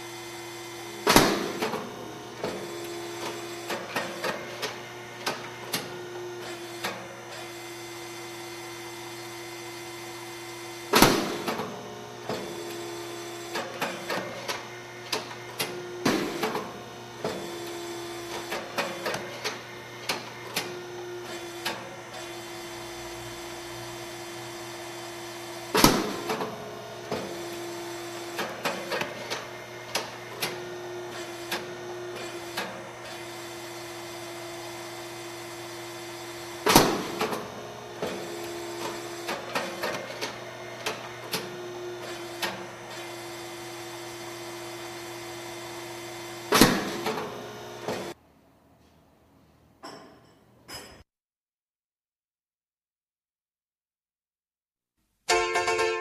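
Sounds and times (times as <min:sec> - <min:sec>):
machine motor hum: 0:00.0 - 0:48.2.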